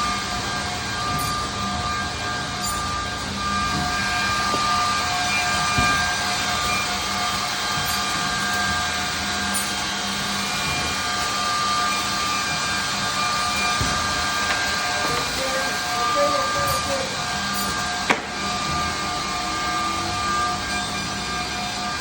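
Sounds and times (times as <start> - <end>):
high steady whining tones: 0.0 - 22.0
machine running: 0.0 - 22.0.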